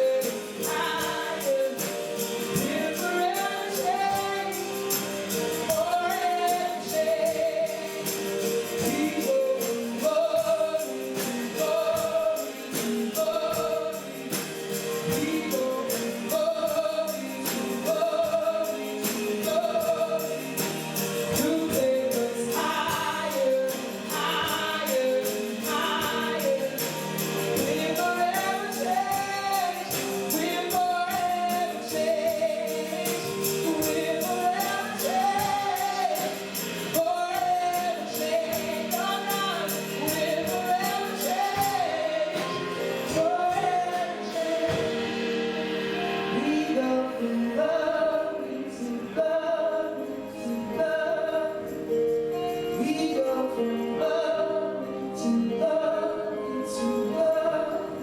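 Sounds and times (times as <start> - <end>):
band with steady beat: 0.0 - 46.8
voices singing gospel: 0.0 - 58.0.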